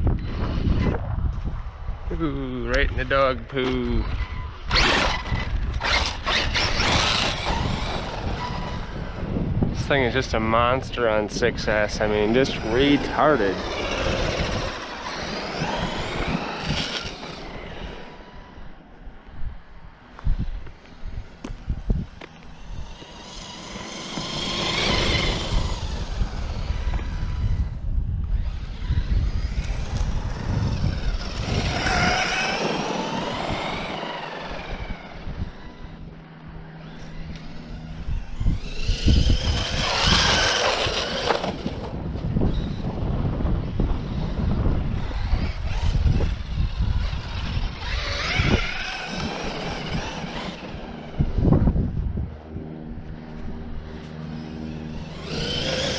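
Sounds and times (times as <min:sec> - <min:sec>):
electric motor whine: 0:00.0 - 0:55.9
wind on microphone: 0:00.0 - 0:55.9
tyres rumbling on pavement: 0:02.2 - 0:19.0, 0:19.6 - 0:27.8, 0:28.4 - 0:55.9.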